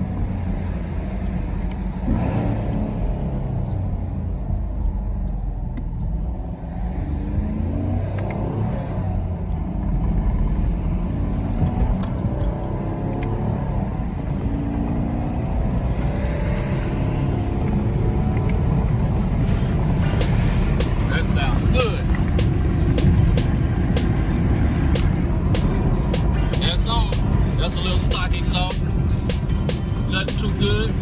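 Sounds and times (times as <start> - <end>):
car engine revving through gears: 0.0 - 31.0.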